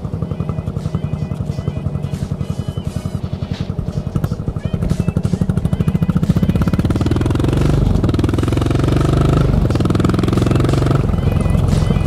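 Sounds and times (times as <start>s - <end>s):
motorcycle engine pulling away: 0.0s - 12.0s.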